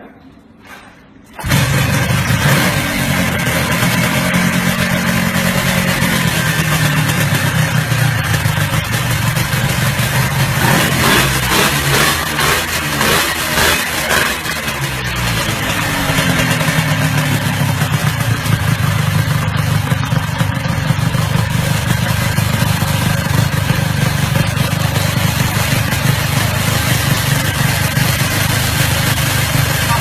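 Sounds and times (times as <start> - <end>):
two-stroke motorcycle engine running: 1.4 - 30.0.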